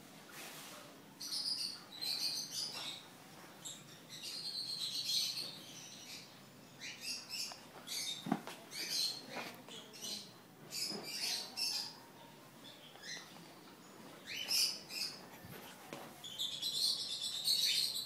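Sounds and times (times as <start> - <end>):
small birds chirping: 1.1 - 18.0.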